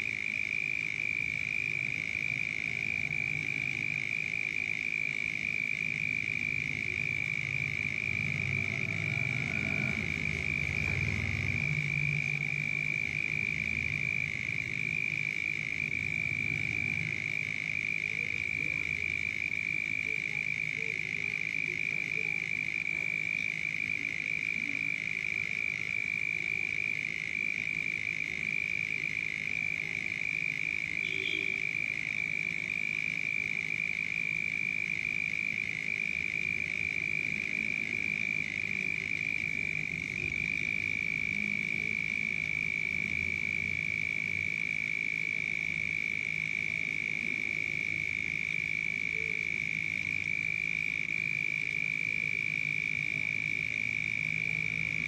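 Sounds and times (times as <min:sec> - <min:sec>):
high-pitched frog chorus: 0:00.0 - 0:55.0
low frog croaks: 0:00.0 - 0:55.0.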